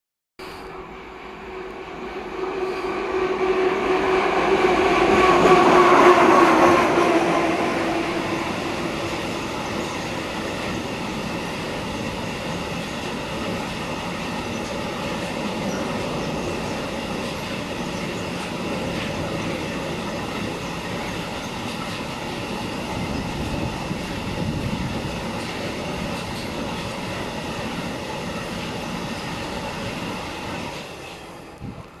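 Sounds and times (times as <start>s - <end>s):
freight train wheels clattering: 5.0s - 31.3s.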